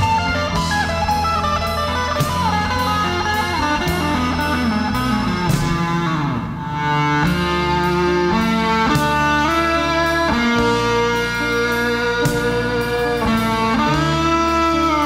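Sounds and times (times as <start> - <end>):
electric guitar line: 0.0 - 15.0
steady drum beat: 0.0 - 15.0
sustained bass: 0.0 - 15.0.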